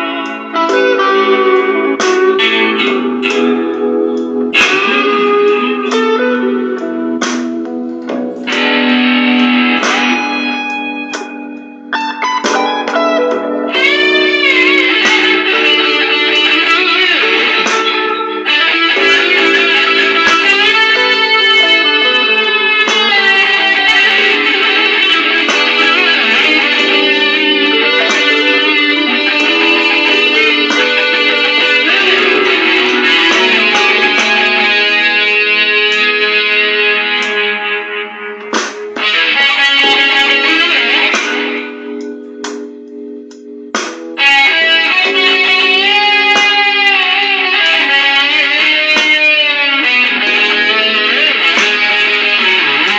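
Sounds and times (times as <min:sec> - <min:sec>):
electric guitar playing blues: 0:00.0 - 0:52.9.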